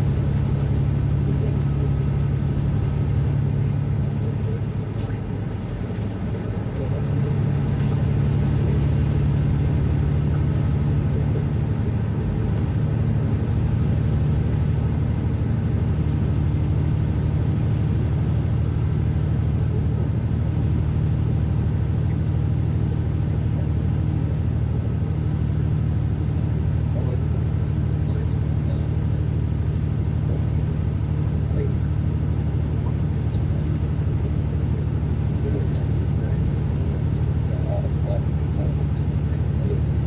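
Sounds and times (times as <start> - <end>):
road noise: 0.0 - 40.0
truck diesel engine drone: 0.0 - 40.0.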